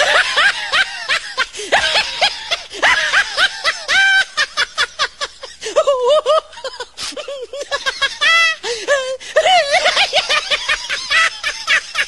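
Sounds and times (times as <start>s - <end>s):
high-pitched human laughter: 0.0s - 12.0s.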